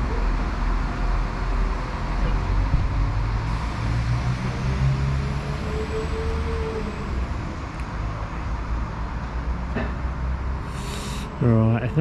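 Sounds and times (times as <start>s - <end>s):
diesel train engine rumbling: 0.0s - 12.0s.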